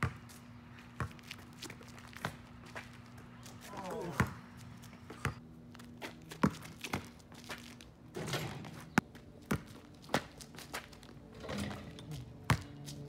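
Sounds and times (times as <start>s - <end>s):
basketball bouncing on asphalt: 0.0s - 11.2s, 12.3s - 13.0s.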